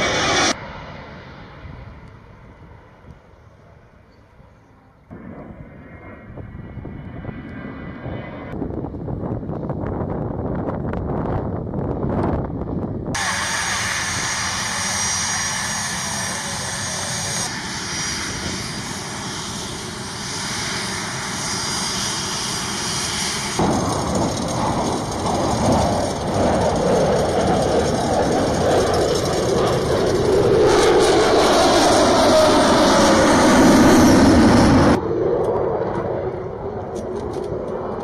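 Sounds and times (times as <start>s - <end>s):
jet engines hissing and whining: 0.0s - 10.2s, 11.7s - 38.0s.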